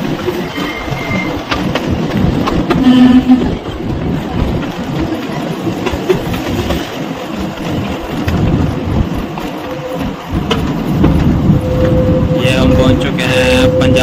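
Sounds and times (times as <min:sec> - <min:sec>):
clacks and rattles: 0:00.0 - 0:12.0
train wheels rumbling on rails: 0:00.0 - 0:14.0.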